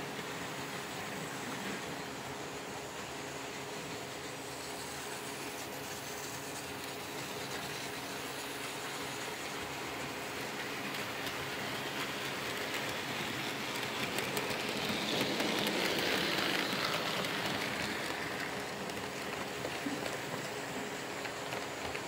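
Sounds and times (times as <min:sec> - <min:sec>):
model train whirring on track: 0:00.0 - 0:22.0.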